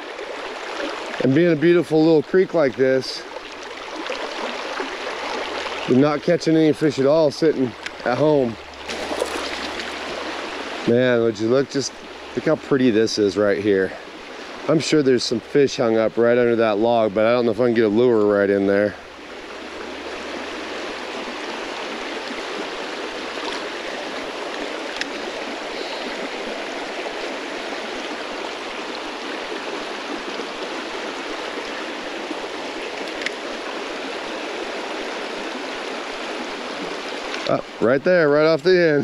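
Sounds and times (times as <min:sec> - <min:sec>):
creek water rushing over rocks: 0:00.0 - 0:39.0.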